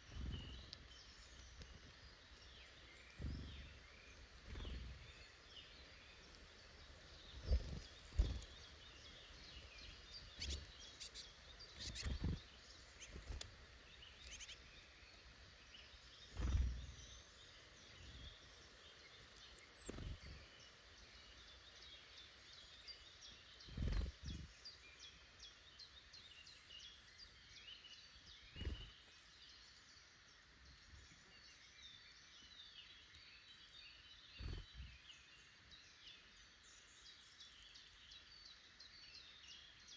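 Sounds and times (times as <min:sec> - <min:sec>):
woodland birds singing: 0:00.0 - 0:39.9.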